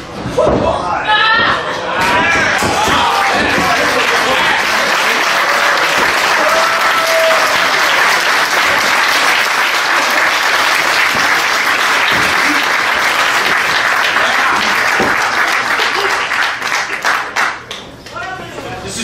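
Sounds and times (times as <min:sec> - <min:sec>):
audience applauding: 0:02.4 - 0:18.0.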